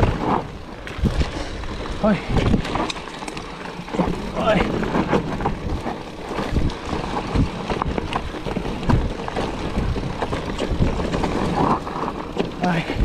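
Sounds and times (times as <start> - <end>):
wind noise on microphone: 0.0 - 3.2, 3.9 - 13.0
bike knocks and rattles: 0.0 - 13.0
tyres rolling on dirt: 0.0 - 13.0.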